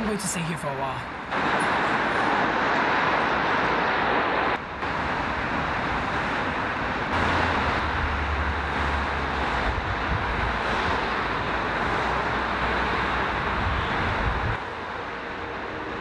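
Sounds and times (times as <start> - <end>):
busy road traffic: 0.0 - 16.0.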